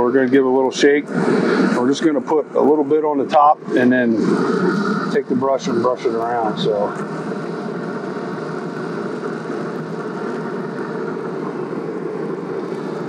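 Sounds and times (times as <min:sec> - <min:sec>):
grill fan whooshing hum: 0:00.0 - 0:13.0.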